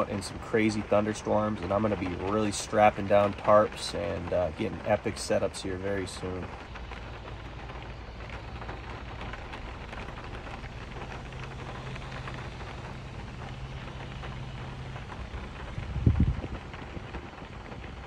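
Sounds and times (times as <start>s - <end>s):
low steady hum: 0.0s - 18.0s
steady rain falling: 0.0s - 18.0s.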